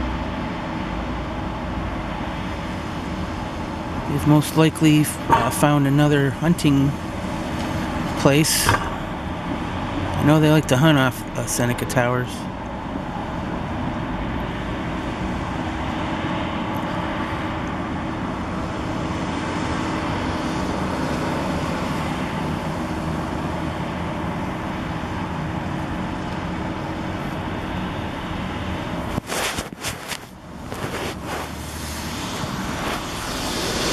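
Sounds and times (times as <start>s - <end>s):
city traffic rumble: 0.0s - 33.9s.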